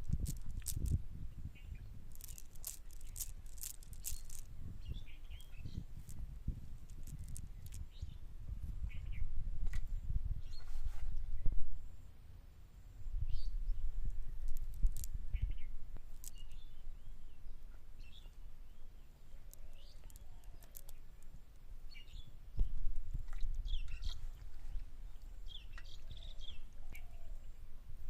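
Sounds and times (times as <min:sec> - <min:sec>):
small birds chirping: 0:00.0 - 0:09.3, 0:13.2 - 0:27.6.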